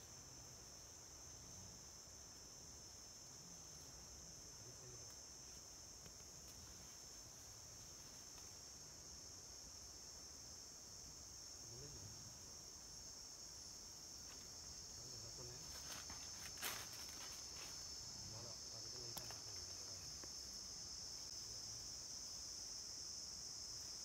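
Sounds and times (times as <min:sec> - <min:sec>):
forest insects droning: 0:00.0 - 0:24.0.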